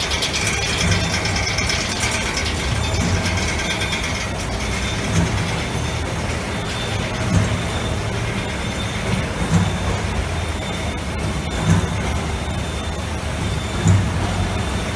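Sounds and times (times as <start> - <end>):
laminating machine rumbling: 0.0 - 14.9
machine knocking: 0.0 - 14.9.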